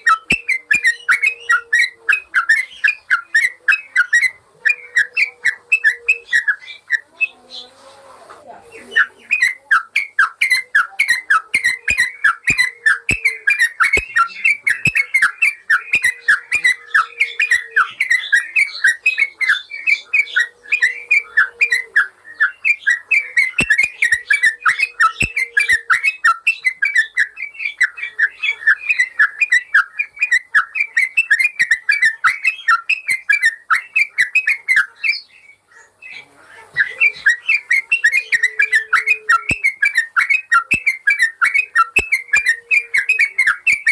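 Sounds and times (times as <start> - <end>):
bulbul rapid chirping song: 0.0 - 7.6, 8.8 - 43.9.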